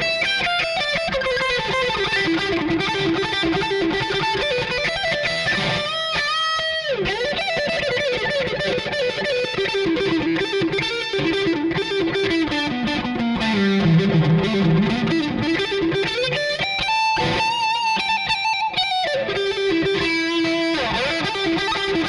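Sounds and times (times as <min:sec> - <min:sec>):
distorted electric guitar lead: 0:00.0 - 0:22.0.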